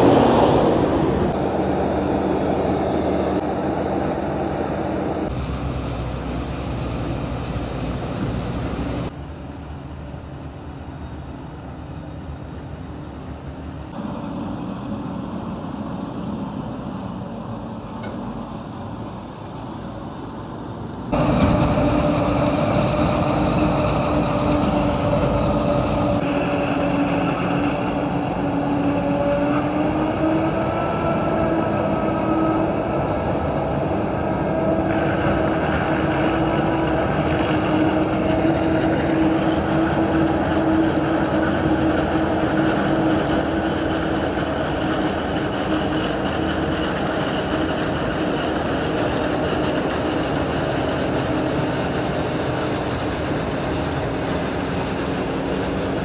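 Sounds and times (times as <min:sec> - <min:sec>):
harvesting machine drone: 0:00.0 - 0:56.0.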